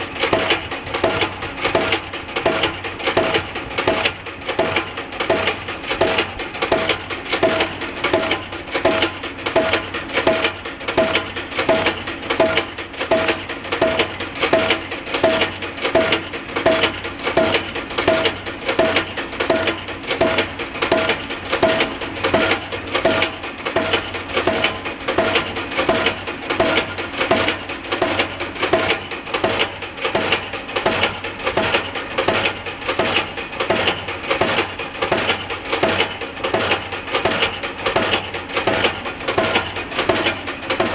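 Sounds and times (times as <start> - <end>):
pile-driving hammer clanging: 0.0 - 40.9.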